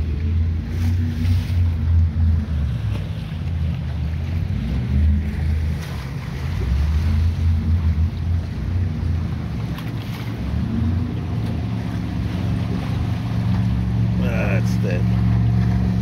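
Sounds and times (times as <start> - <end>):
waves splashing against seawall: 0.0 - 16.0.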